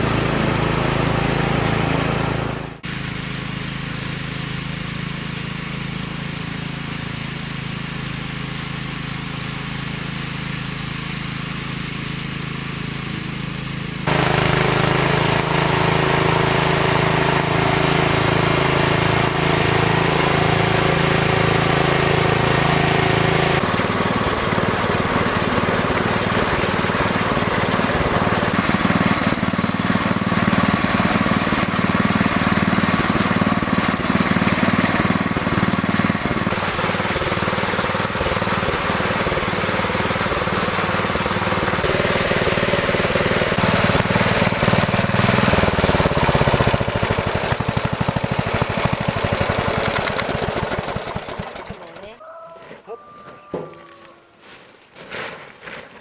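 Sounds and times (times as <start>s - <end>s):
small engine running under load: 0.0s - 52.2s.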